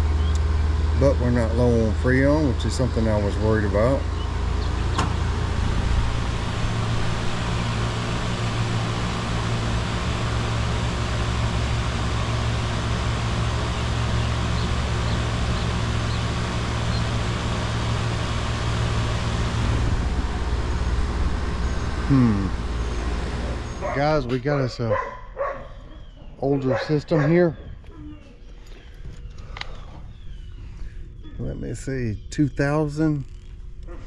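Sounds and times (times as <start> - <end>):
condenser fan rushing: 0.0 - 27.9, 29.0 - 34.0
compressor hum: 0.0 - 34.0.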